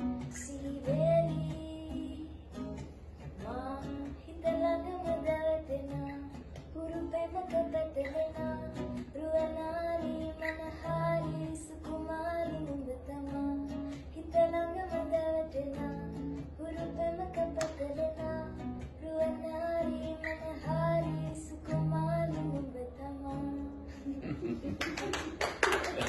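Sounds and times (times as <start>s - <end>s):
woman singing pop song: 0.0s - 24.0s
plucked acoustic guitar: 0.0s - 24.6s.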